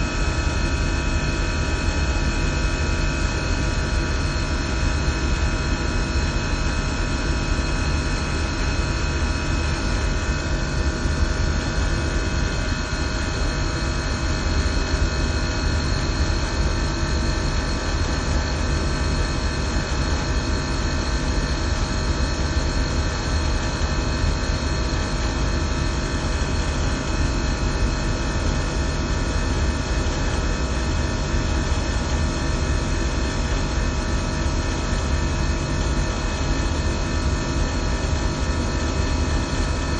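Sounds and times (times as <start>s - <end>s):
hvac equipment humming: 0.0s - 39.9s.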